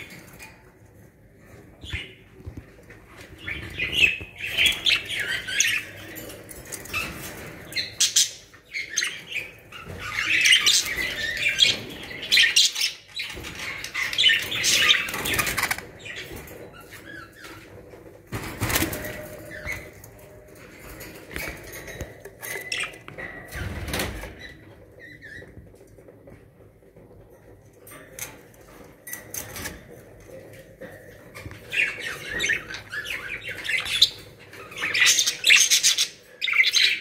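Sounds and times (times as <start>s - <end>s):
budgerigars chirping and chattering: 1.5s - 25.7s, 28.2s - 37.0s.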